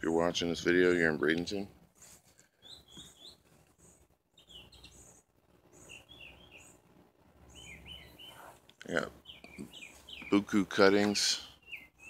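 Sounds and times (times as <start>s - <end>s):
faint bird chirping: 2.3s - 12.0s.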